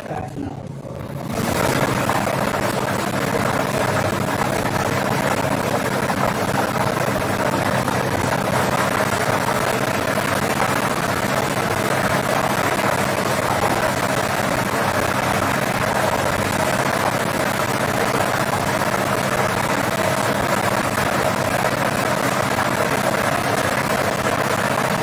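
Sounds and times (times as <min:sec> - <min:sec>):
blower running: 0:00.0 - 0:25.0.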